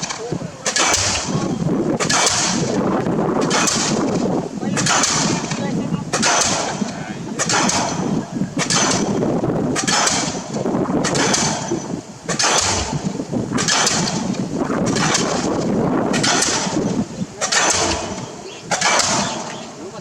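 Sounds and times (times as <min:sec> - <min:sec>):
pile hammer blows: 0:00.0 - 0:02.8, 0:03.4 - 0:09.2, 0:09.8 - 0:19.6.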